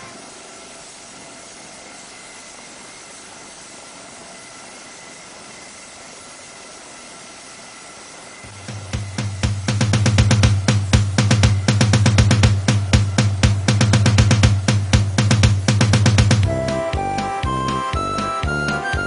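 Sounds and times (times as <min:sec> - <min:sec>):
faint high whine: 0:00.0 - 0:19.0
helicopter rotor and engines rushing: 0:00.0 - 0:19.0.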